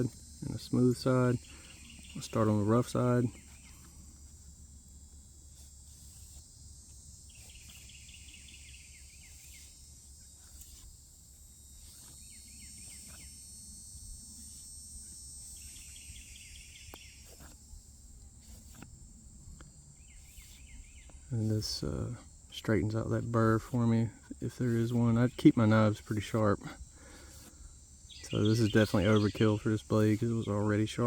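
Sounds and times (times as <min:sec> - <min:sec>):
high insect chorus: 0:00.0 - 0:31.0
knife stropping on leather: 0:01.5 - 0:21.8, 0:23.2 - 0:30.5.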